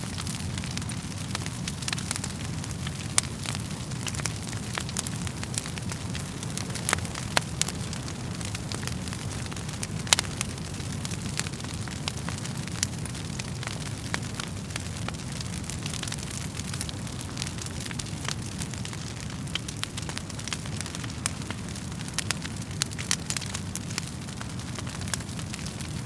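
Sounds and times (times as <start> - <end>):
burning logs crackling and popping: 0.0 - 26.0
fire flames rushing: 0.0 - 26.0.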